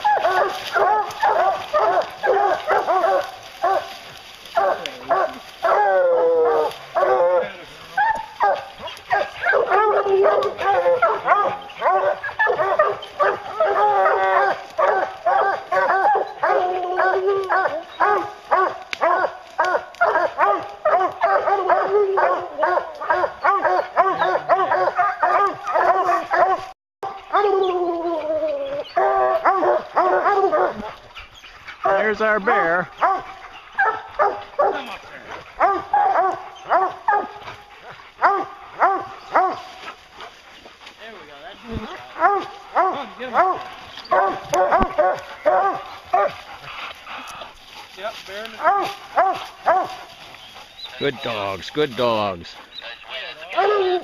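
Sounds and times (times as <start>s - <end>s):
hounds bawling and barking: 0.0s - 54.0s.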